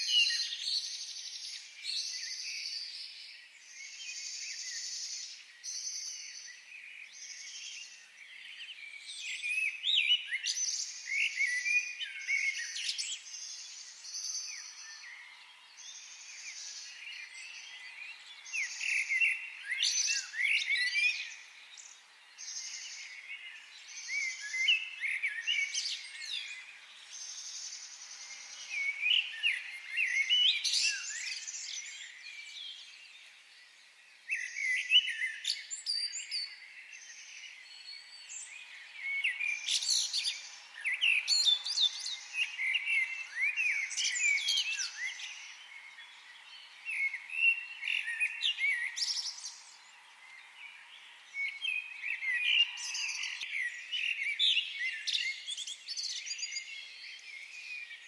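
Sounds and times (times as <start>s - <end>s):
forest birds singing: 0.0s - 58.0s.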